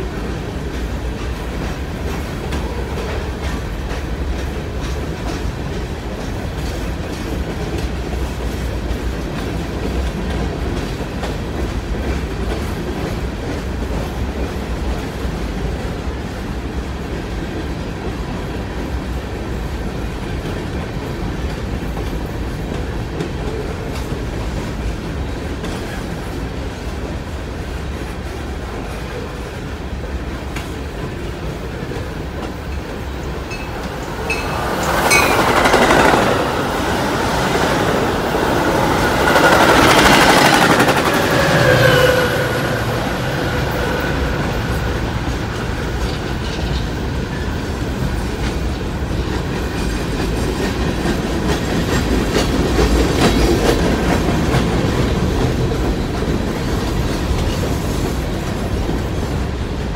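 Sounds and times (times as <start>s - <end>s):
diesel commuter train passing: 0.0s - 59.9s
freight train cars rolling past: 0.0s - 59.9s.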